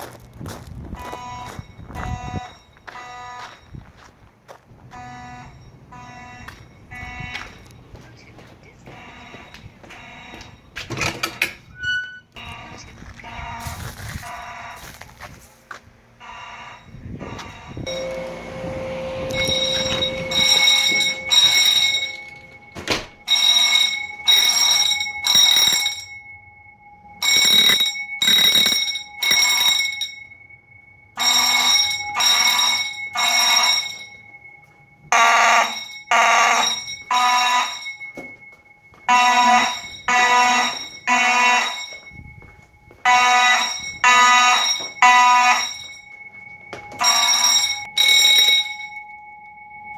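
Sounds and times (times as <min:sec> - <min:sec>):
fire alarm sounder blasts: 0:00.0 - 0:04.1, 0:04.8 - 0:49.9
steady high tone: 0:05.0 - 0:49.9.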